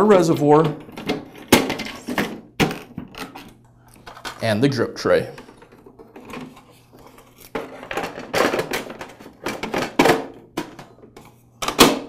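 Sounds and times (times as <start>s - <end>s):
plastic parts scraping and knocking: 0.5s - 12.0s.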